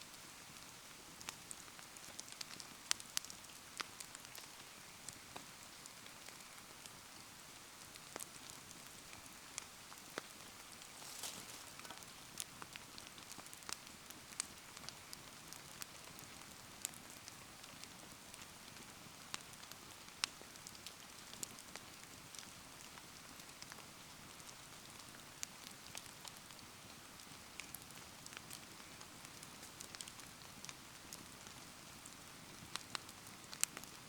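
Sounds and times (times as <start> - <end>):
bonfire crackling: 0.0 - 34.0
rain pattering: 0.0 - 34.0.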